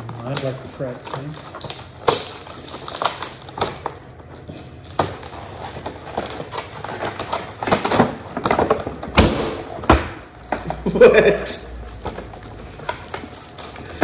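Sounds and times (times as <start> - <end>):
plastic packaging crackling: 0.0 - 14.0.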